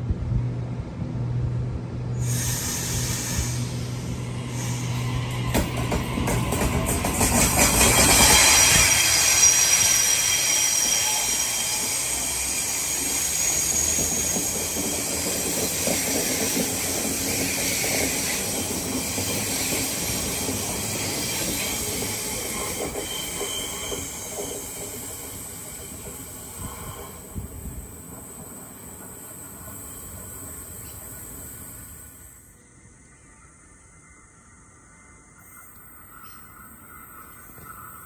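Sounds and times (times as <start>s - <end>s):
train rumbling on track: 0.0s - 32.5s, 35.3s - 38.0s
train wheels screeching: 2.2s - 32.5s, 35.4s - 38.0s.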